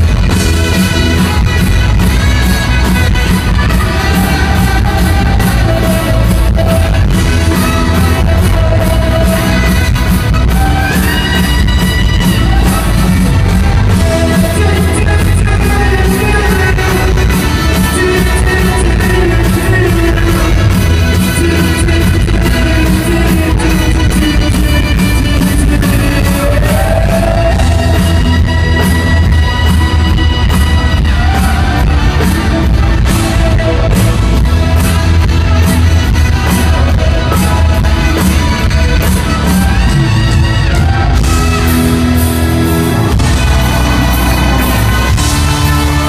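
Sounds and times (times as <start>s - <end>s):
lead singer singing: 0.0s - 40.2s
drums: 0.0s - 46.0s
guitar: 0.0s - 46.0s
rock band playing: 0.0s - 46.0s.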